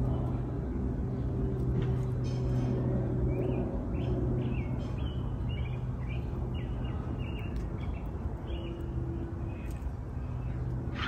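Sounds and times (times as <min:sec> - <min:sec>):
low hum and rumble: 0:00.0 - 0:11.0
songbirds chirping: 0:00.0 - 0:11.0.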